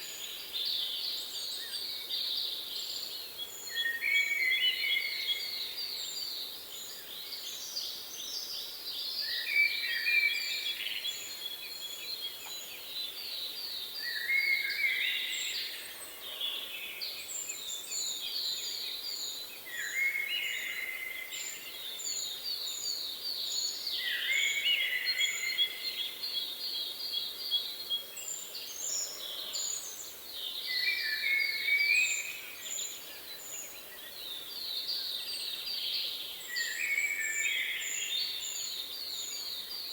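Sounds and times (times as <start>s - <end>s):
songbird song with fast trill: 0.0s - 39.9s.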